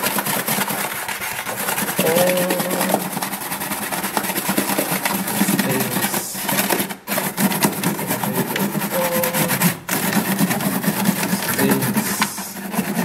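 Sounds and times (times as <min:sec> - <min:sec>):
toothbrush scrubbing plastic: 0:00.0 - 0:13.0.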